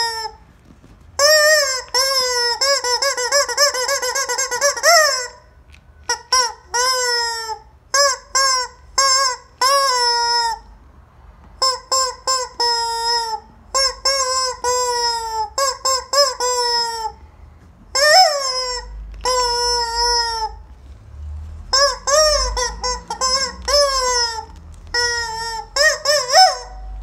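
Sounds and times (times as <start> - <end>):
rubber chicken toy squawking: 0.0 - 0.5, 1.2 - 10.8, 11.6 - 17.2, 17.9 - 20.8, 21.7 - 27.0.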